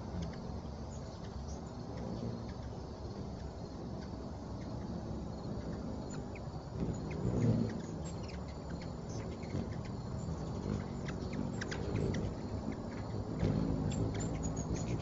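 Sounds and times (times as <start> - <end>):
hummingbird wing hum: 0.0 - 15.0.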